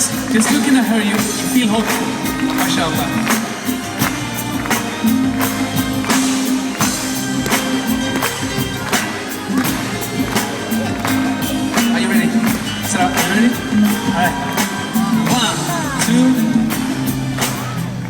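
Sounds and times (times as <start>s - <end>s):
percussion beat: 0.0s - 18.0s.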